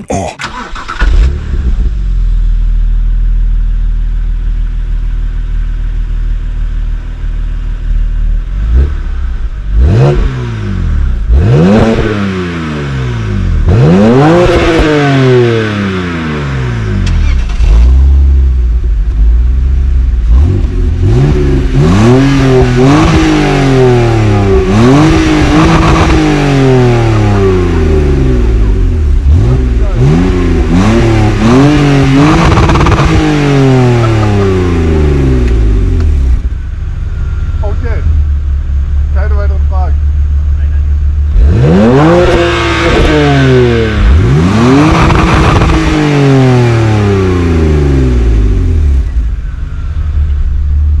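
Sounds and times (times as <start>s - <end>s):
car engines idling and revving: 0.0s - 51.0s.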